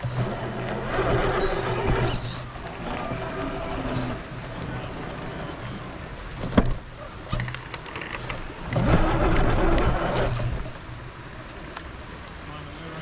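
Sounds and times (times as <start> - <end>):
rush of noise: 0.0 - 13.0.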